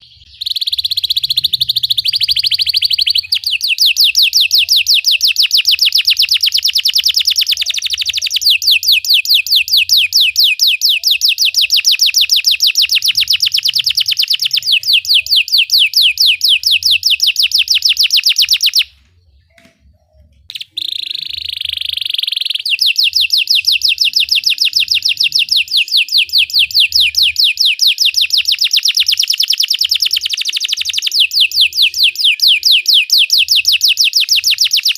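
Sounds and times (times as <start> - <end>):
canary singing rapid trills: 0.0 - 18.9, 19.5 - 34.9.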